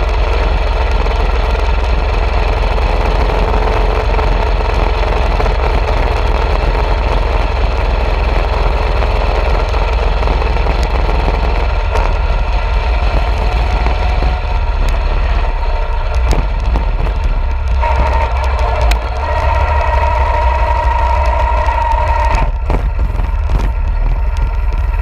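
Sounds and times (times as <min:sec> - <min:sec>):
mini bike engine running: 0:00.0 - 0:25.0.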